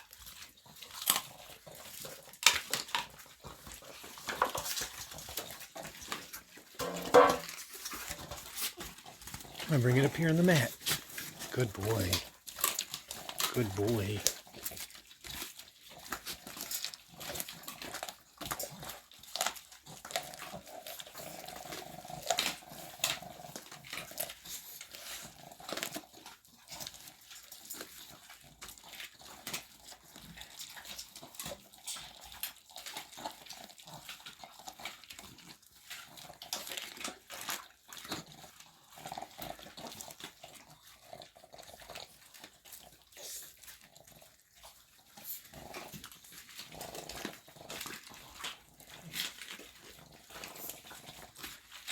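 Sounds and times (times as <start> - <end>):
dogs chewing meat and bone: 0.0 - 51.9.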